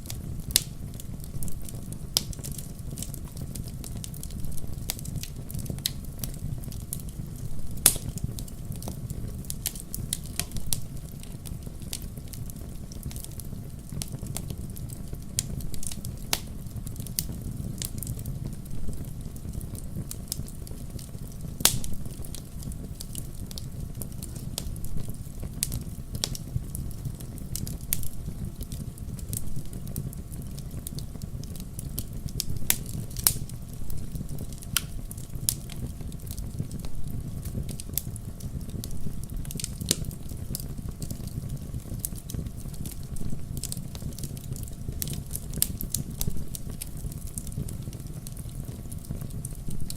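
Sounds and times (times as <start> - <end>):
flame rumble: 0.0 - 49.9
wood fire crackling: 0.0 - 49.9.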